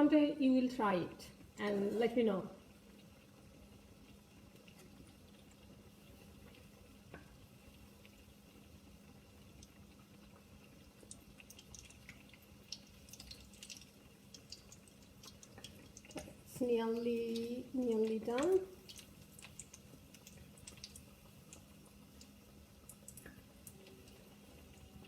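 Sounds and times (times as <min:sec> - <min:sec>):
food frying in oil: 0:00.0 - 0:25.0
low steady hum: 0:00.0 - 0:25.0.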